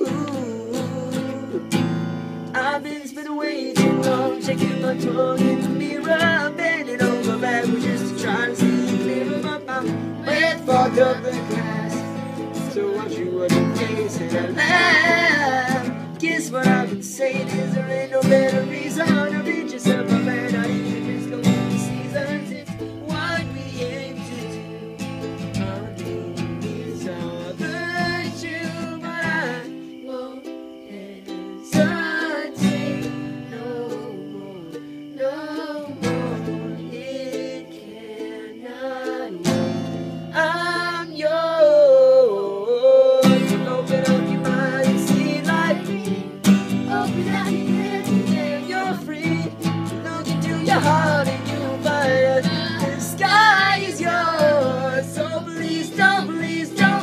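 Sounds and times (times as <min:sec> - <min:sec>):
acoustic guitar strumming: 0:00.0 - 0:57.0
person singing: 0:00.0 - 0:57.0.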